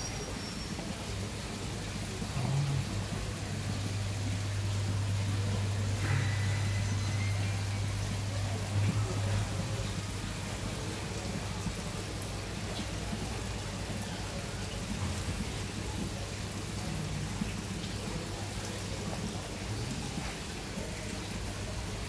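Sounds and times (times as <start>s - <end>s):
aquarium water splashing: 0.0s - 22.0s
low pump hum: 0.0s - 22.0s.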